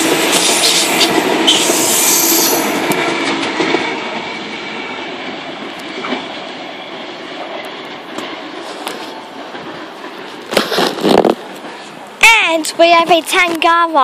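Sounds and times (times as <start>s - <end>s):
train wheels running over rails: 0.0s - 14.0s.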